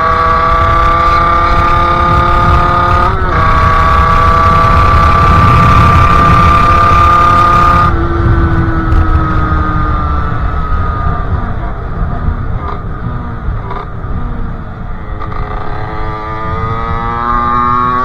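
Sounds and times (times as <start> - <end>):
two-stroke engine at high revs: 0.0 - 18.0
wind rumble on microphone: 0.0 - 18.0.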